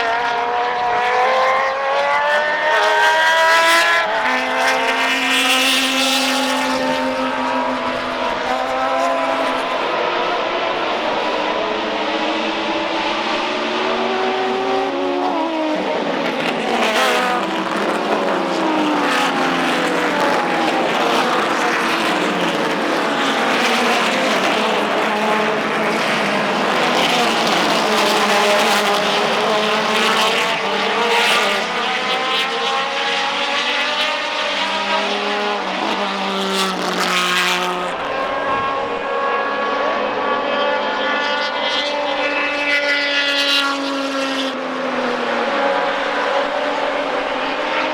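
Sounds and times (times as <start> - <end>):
race car engines accelerating: 0.0 - 47.9.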